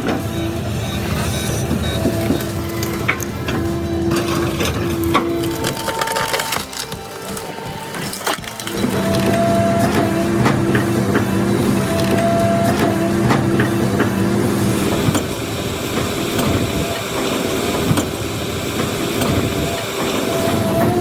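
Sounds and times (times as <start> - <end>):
heavy machinery whine: 0.0 - 21.0
machinery rattling rumble: 0.0 - 21.0.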